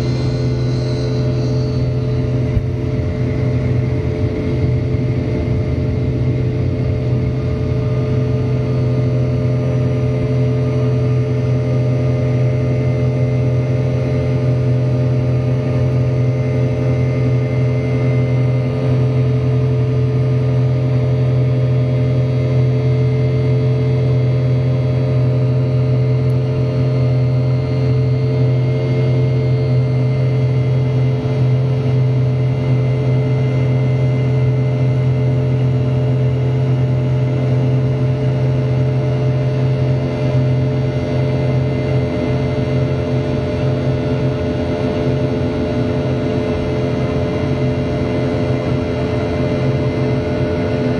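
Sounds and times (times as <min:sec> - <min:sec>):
jet engine drone in cabin: 0:00.0 - 0:50.9.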